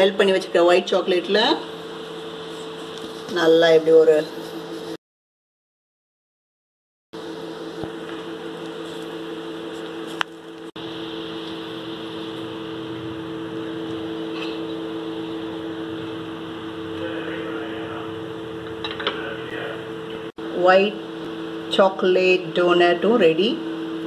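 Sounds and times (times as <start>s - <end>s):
steady mechanical hum: 0.0s - 5.0s, 7.2s - 24.0s.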